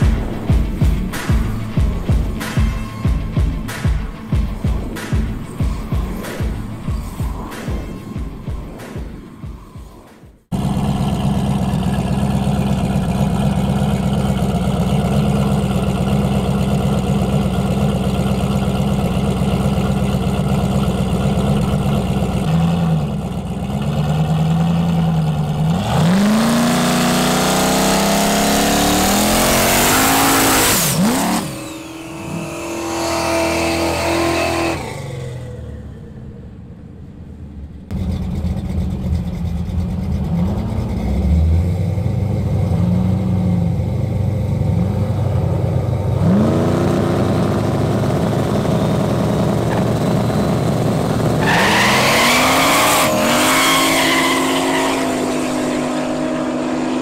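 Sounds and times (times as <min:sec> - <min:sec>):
high turbo whine: 0:00.0 - 0:57.0
race car engines revving: 0:10.5 - 0:57.0.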